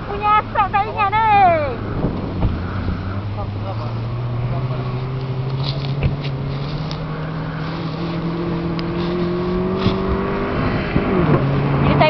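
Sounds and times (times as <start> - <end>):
rally car engine running hard: 1.3 - 12.0.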